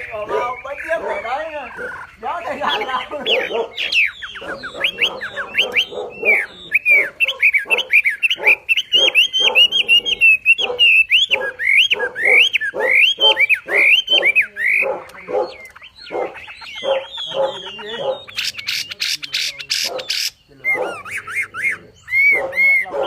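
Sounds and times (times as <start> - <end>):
harsh lower bird chatter: 0.0 - 23.0
songbird whistling fast song: 0.0 - 23.0.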